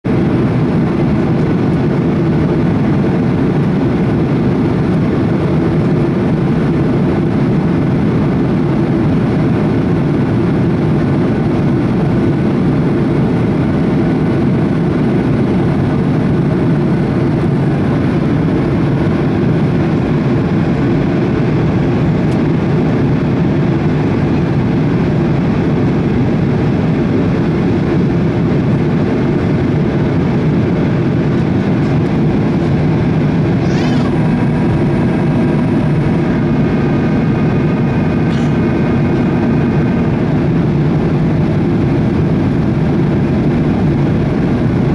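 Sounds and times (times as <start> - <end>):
airflow over fuselage: 0.0 - 44.9
airplane cabin engine roar: 0.0 - 44.9.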